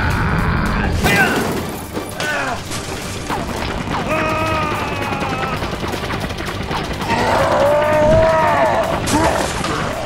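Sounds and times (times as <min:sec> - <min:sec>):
cartoon gunfire and explosions: 0:00.0 - 0:10.0.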